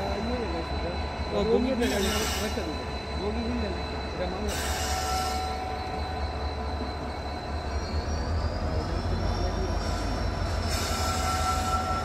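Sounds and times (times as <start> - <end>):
train rolling low rumble: 0.0 - 12.0.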